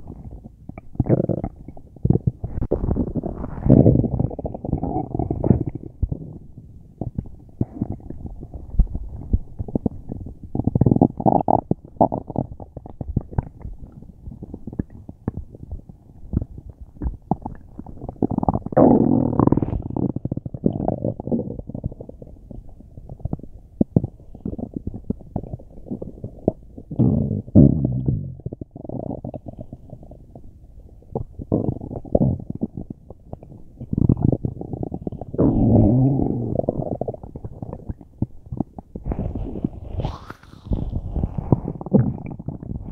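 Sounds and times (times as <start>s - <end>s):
stomach rumbling and gurgling: 0.0s - 42.9s.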